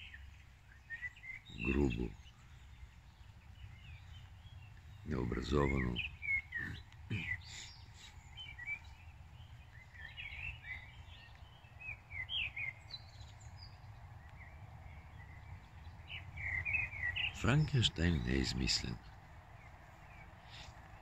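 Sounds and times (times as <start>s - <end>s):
low background rumble: 0.0s - 21.0s
songbirds chirping: 0.0s - 21.0s.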